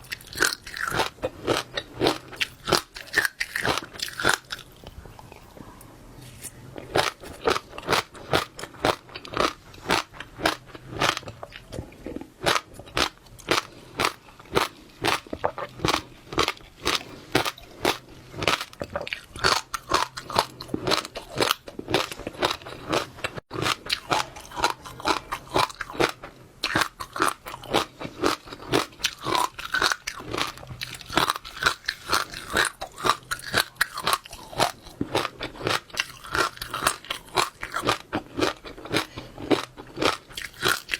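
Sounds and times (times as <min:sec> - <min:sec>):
chewing crunchy seeds: 0:00.0 - 0:05.5, 0:06.2 - 0:40.9.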